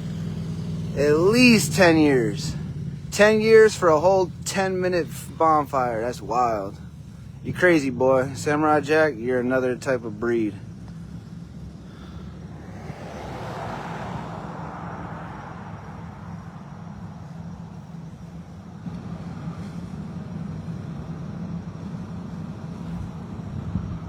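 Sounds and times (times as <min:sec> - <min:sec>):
car passing: 0:00.0 - 0:24.0
vehicle engine idling: 0:00.0 - 0:24.0.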